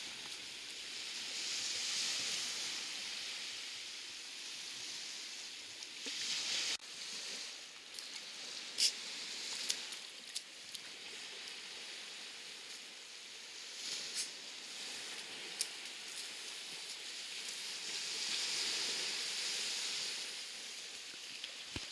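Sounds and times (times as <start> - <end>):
water washing at shoreline: 0.0 - 21.9.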